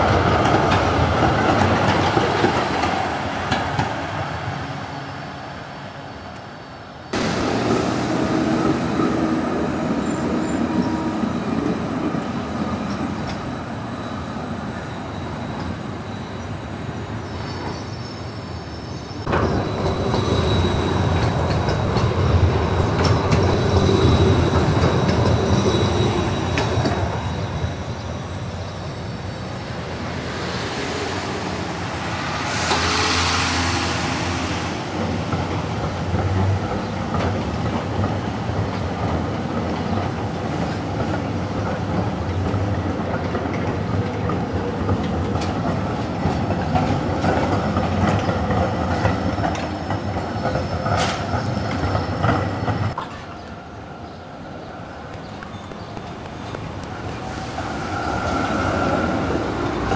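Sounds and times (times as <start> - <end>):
tram wheels rumbling on rails: 0.0 - 5.2, 7.1 - 59.9.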